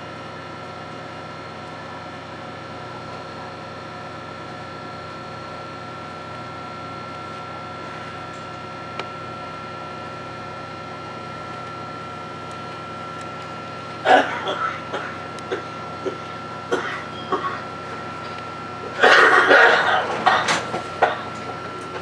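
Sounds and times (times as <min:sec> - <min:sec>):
electric train equipment hum: 0:00.0 - 0:22.0.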